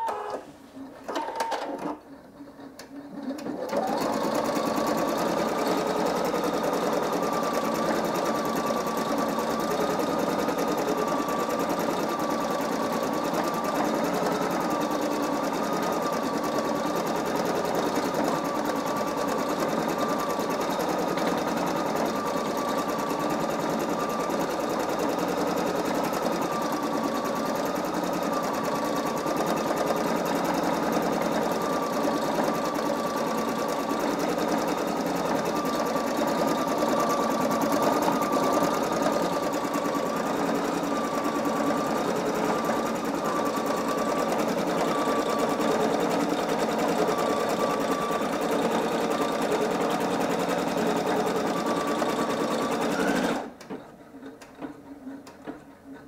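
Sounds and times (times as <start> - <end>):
embroidery machine clatter: 2.7 - 56.0.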